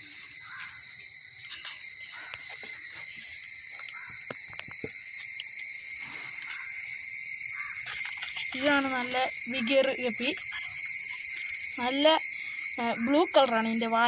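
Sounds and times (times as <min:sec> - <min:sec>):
insect chorus droning: 0:00.0 - 0:14.0.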